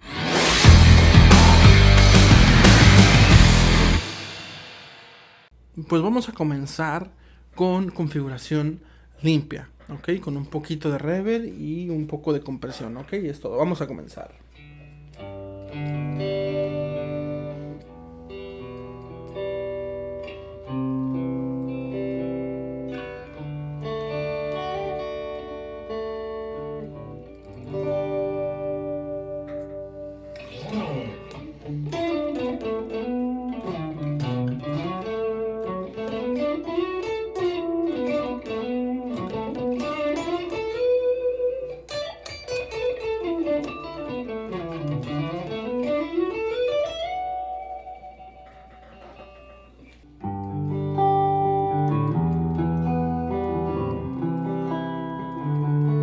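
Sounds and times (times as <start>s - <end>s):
clean electric guitar: 0.0s - 5.4s, 14.3s - 56.0s.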